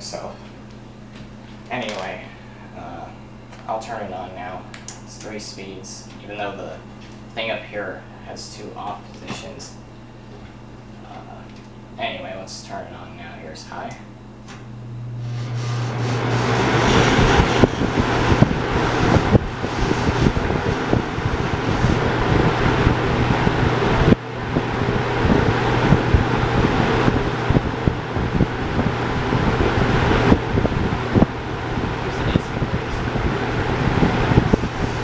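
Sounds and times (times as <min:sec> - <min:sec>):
fan air rushing: 0:00.0 - 0:35.0
fan motor hum: 0:00.0 - 0:35.0.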